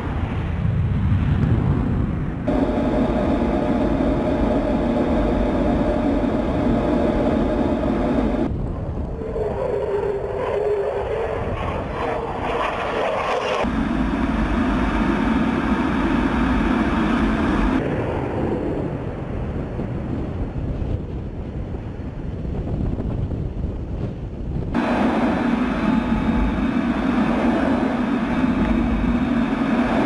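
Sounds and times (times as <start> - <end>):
fighter jet engine roaring: 0.0 - 22.2, 24.7 - 30.0.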